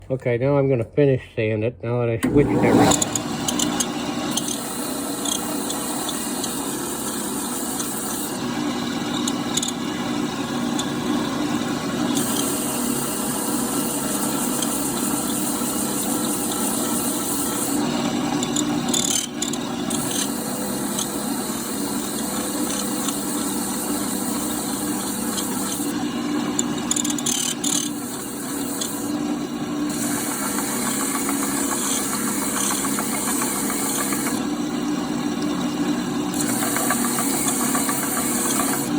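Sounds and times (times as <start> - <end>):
power sander sanding wood: 2.2 - 38.9.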